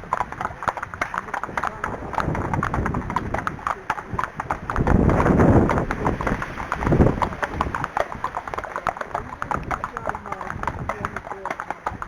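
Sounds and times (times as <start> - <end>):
horse hoofbeats clip-clop: 0.0 - 12.0
wind buffeting microphone: 0.0 - 12.0.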